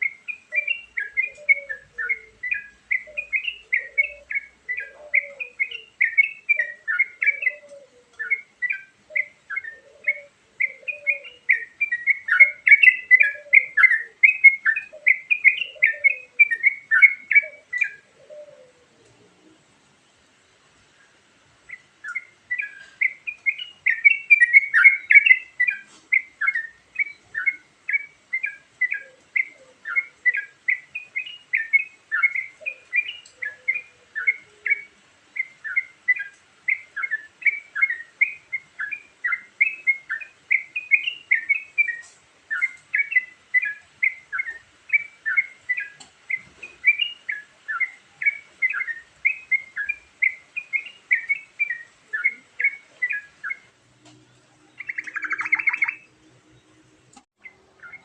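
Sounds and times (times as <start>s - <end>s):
bird chirping song: 0.0s - 58.0s.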